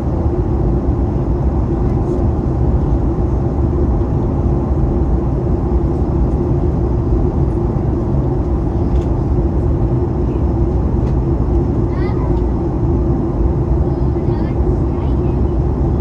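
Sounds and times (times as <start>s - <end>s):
airplane cabin engine rumble: 0.0s - 16.0s.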